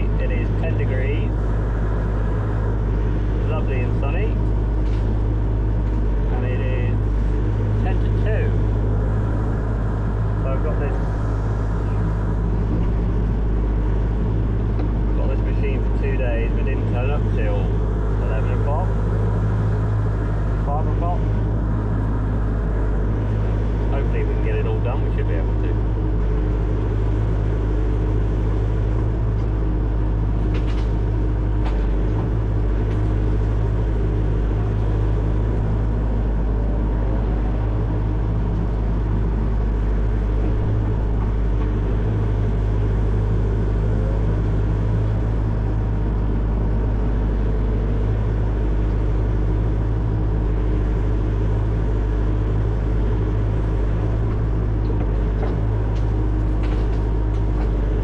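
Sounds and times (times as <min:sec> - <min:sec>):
diesel engine rumbling: 0:00.0 - 0:58.0.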